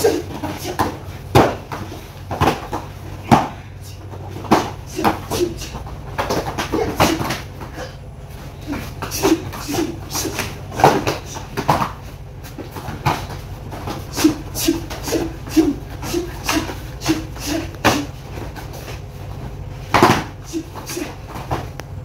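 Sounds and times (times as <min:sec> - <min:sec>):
bare feet landing on foam mats: 0:00.0 - 0:07.9, 0:08.6 - 0:21.8
sparring strikes slapping and thudding: 0:00.0 - 0:08.0, 0:08.6 - 0:19.0, 0:19.8 - 0:21.8.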